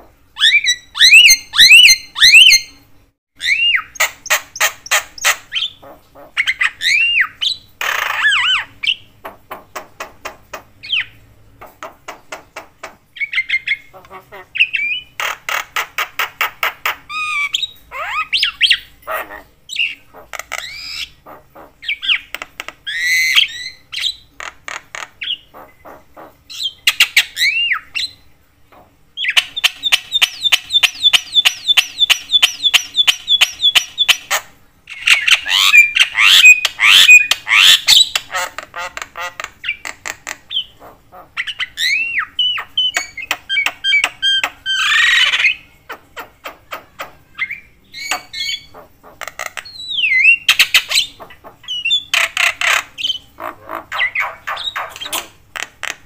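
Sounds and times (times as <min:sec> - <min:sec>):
myna bird chattering: 0:00.4 - 0:02.8, 0:03.4 - 0:28.2, 0:28.8 - 0:56.0.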